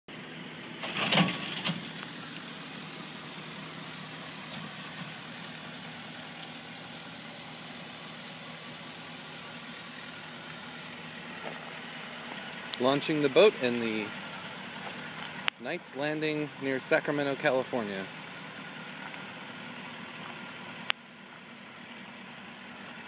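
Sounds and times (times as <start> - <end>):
diesel truck engine running: 0.1 - 23.0.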